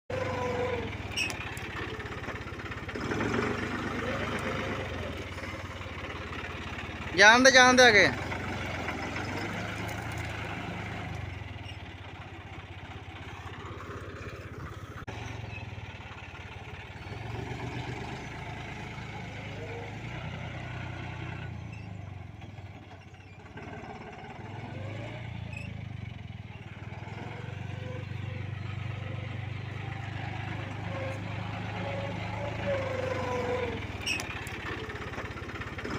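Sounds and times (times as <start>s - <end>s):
diesel engine throbbing: 0.1s - 35.9s.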